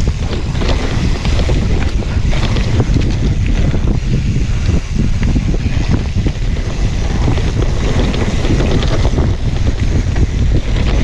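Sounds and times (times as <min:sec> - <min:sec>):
bike rattling and clicking: 0:00.0 - 0:11.0
tyres rolling on dirt trail: 0:00.0 - 0:11.0
wind buffeting microphone: 0:00.0 - 0:11.0.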